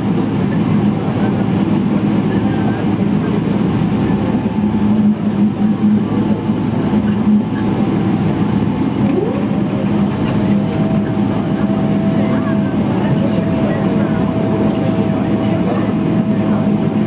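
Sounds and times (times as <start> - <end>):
airframe rolling rumble: 0.0 - 17.0
jet engines humming: 0.0 - 17.0
rising whine: 2.0 - 17.0.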